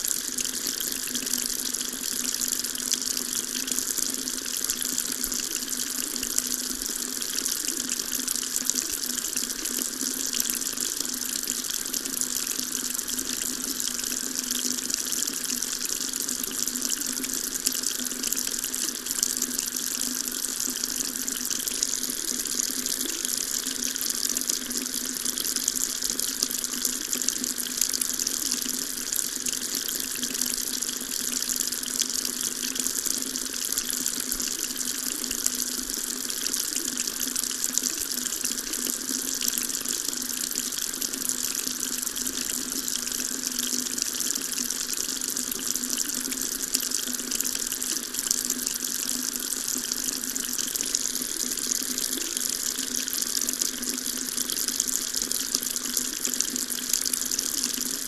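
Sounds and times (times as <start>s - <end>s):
water tap running into sink: 0.0s - 58.0s.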